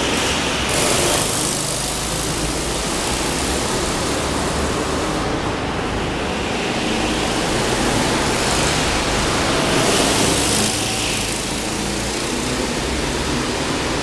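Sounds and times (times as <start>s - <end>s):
go-kart engines echoing: 0.0s - 14.0s.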